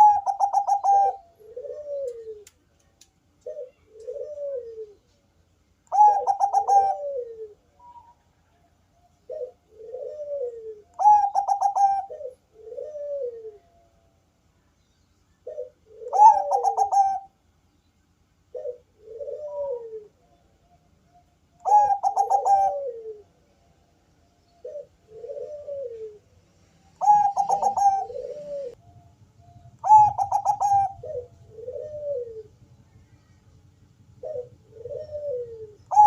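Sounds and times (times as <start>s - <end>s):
dove cooing: 0.0s - 2.7s, 3.4s - 5.2s, 5.8s - 14.1s, 15.4s - 17.4s, 18.5s - 23.5s, 24.4s - 36.0s.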